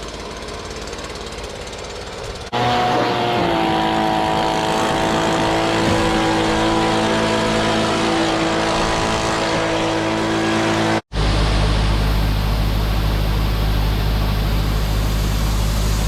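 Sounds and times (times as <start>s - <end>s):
combine harvester drone and whine: 0.0s - 16.0s
deep steady engine hum: 0.0s - 16.0s.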